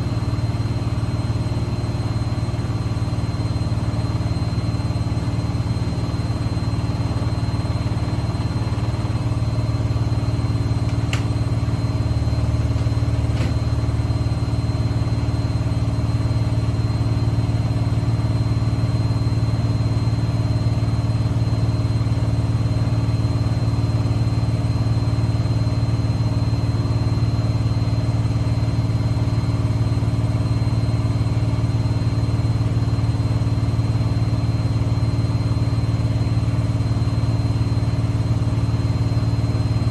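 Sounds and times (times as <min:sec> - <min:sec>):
washing machine spin cycle: 0:00.0 - 0:39.9.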